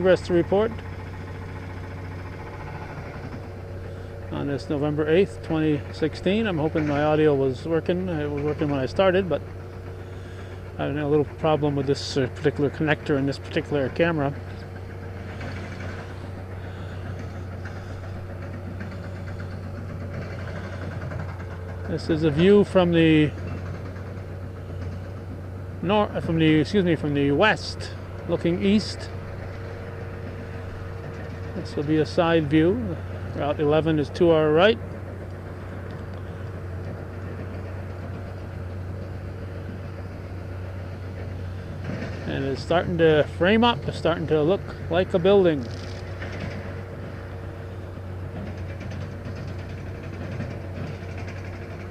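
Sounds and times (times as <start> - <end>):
low drone: 0.0 - 51.9
low engine rumble: 0.0 - 51.9.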